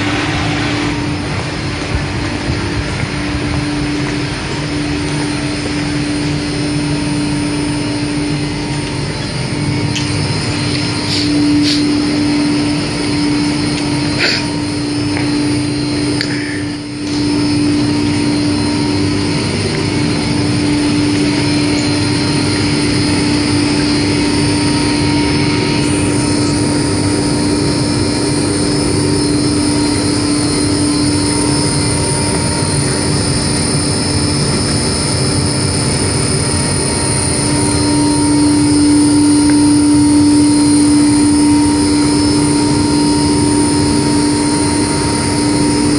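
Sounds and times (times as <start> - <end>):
laundry machine humming: 0.0 - 45.9.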